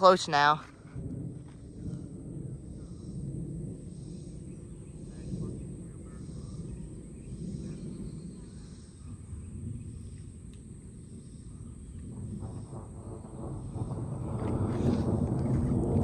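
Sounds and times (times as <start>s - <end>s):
insect chirps: 0.0s - 16.0s
wind rumbling on microphone: 0.0s - 16.0s.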